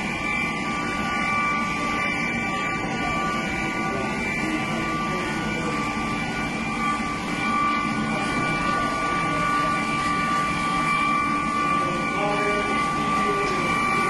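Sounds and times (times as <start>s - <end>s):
constant whining tones: 0.0s - 14.0s
industrial machine roar: 0.0s - 14.0s.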